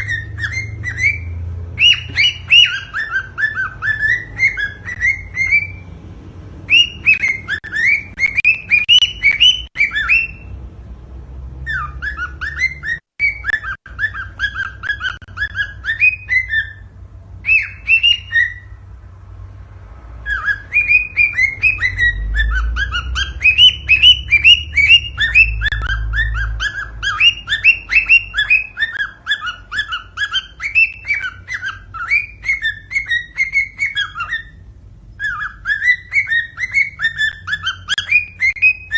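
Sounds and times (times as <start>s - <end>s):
cockatiel whistling chirps: 0.0s - 5.9s, 6.6s - 10.5s, 11.6s - 18.8s, 20.2s - 38.9s.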